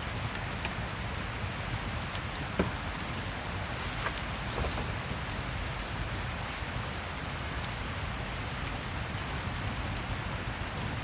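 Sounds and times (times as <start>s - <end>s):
fire crackling: 0.0s - 11.0s
steady rain: 0.0s - 11.0s.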